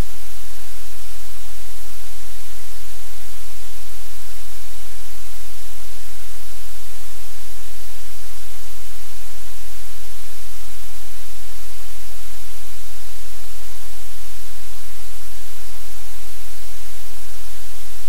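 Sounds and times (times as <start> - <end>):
static-like hiss: 0.0 - 18.0.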